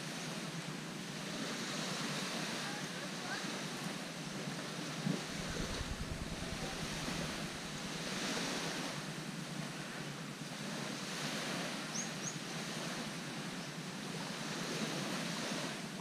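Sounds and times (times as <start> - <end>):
small waves washing onto beach: 0.0 - 16.0.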